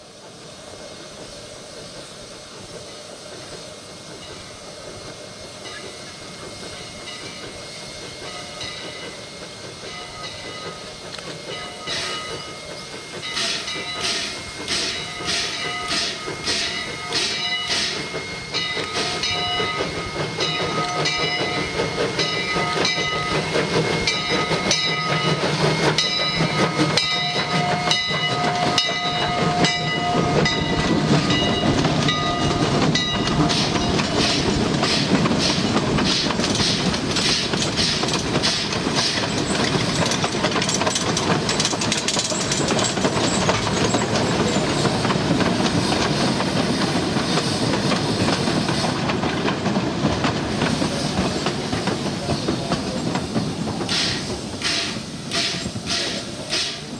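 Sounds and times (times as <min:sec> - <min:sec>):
steam locomotive chuffing: 0:00.0 - 0:56.9
wheels clattering over rail joints: 0:09.8 - 0:56.9.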